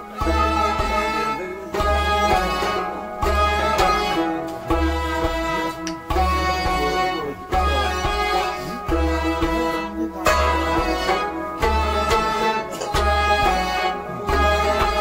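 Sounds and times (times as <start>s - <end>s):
bowed string melody: 0.0s - 15.0s
plucked lute: 0.0s - 15.0s.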